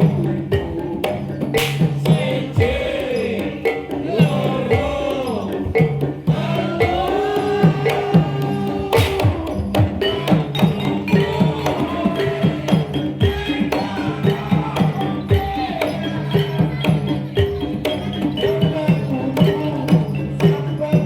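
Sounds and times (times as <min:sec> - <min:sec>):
ringing metallophone melody: 0:00.0 - 0:21.0.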